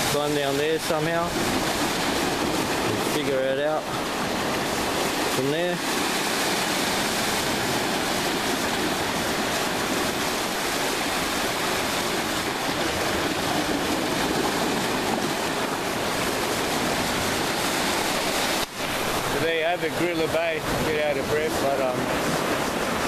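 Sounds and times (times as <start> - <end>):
surf breaking against rocks: 0.0 - 23.0.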